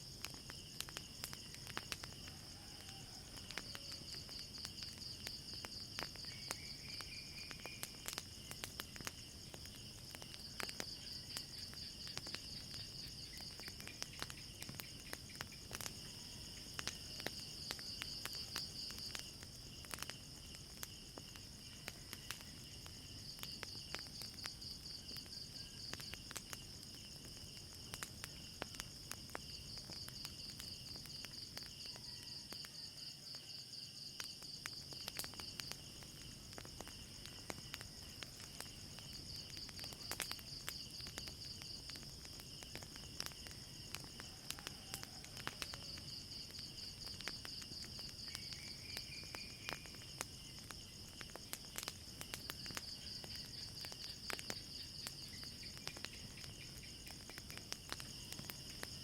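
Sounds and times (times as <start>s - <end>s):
crickets chirping: 0.0s - 59.0s
fire crackling and popping: 0.0s - 59.0s.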